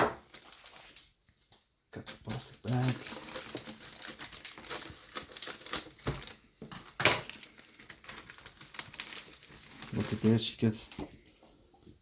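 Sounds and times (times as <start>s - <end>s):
plastic bag crinkling: 0.2s - 1.1s, 2.0s - 11.0s.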